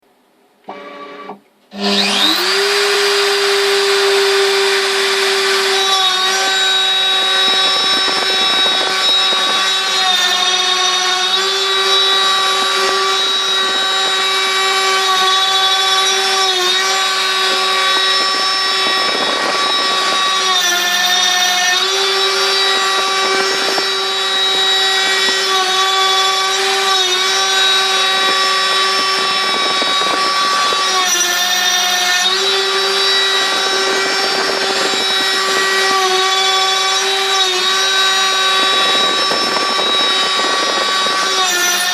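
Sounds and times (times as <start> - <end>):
router spindle whining: 0.6 - 41.9.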